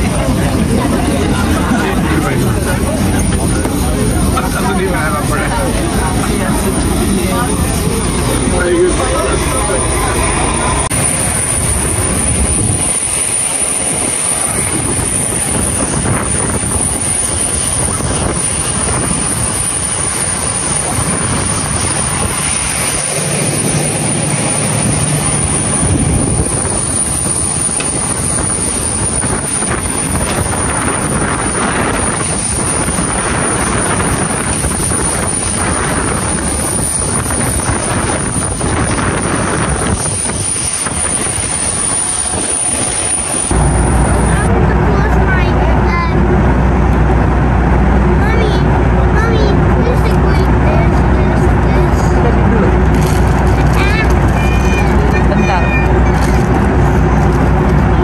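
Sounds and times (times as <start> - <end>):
high-pitched whine: 0.0 - 49.2
jet aircraft roar: 0.0 - 58.0.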